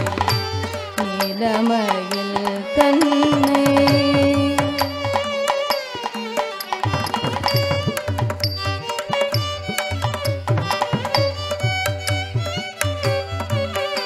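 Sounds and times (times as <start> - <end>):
drum playing steady rhythm: 0.0 - 14.0
instrumental melody: 0.0 - 14.0.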